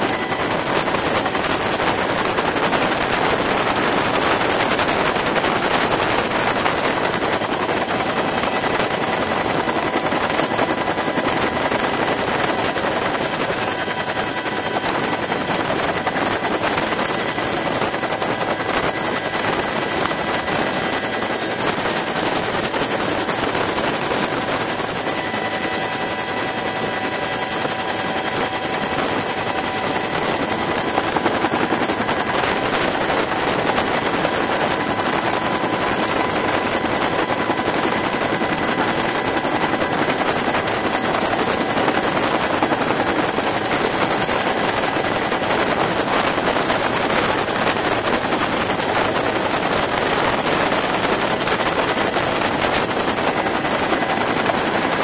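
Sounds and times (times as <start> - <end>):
helicopter rotor blades chopping: 0.0 - 55.0.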